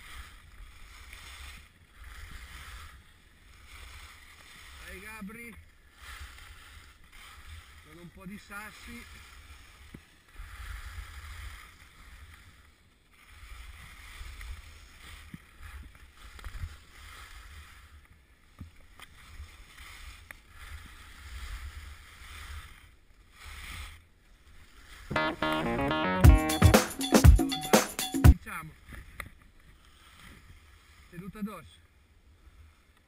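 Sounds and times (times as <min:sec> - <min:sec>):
skis carving on packed snow: 0:00.0 - 0:26.1, 0:29.6 - 0:31.7, 0:32.3 - 0:33.0.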